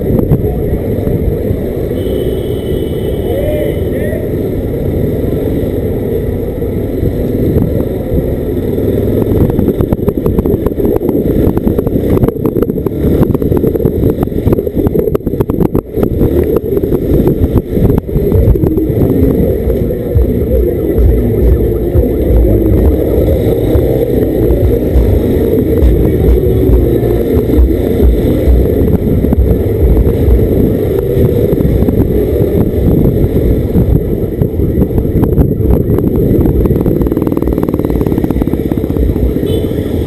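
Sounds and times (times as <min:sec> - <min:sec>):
motorcycle engine rumbling: 0:00.0 - 0:40.0.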